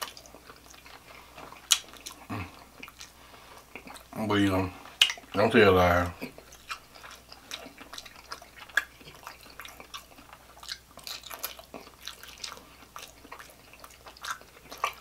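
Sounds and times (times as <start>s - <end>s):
chewing with mouth smacks: 0.0s - 4.2s, 4.8s - 15.0s.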